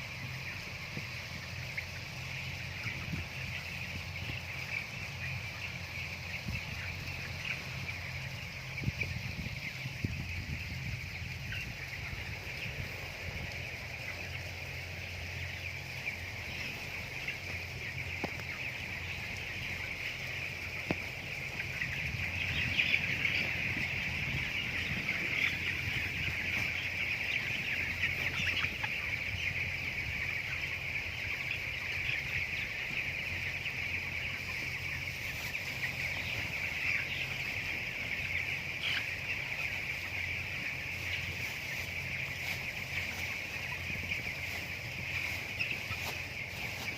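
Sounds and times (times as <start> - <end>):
chickens peeping and clucking: 0.0 - 46.9.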